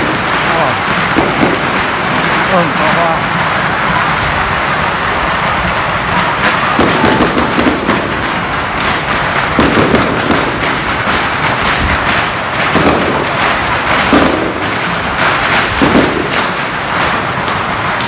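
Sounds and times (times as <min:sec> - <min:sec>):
firecrackers popping: 0:00.0 - 0:18.0
heavy firework thuds: 0:00.0 - 0:18.0.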